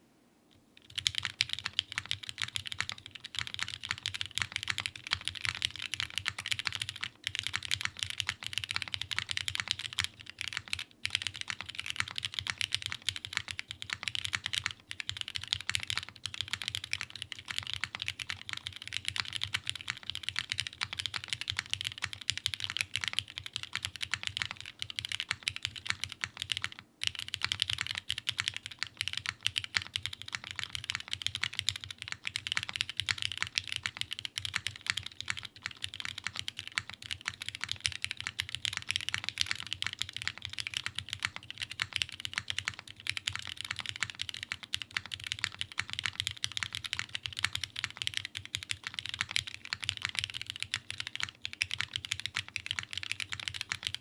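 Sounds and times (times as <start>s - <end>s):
mechanical keyboard typing: 0.8s - 54.0s.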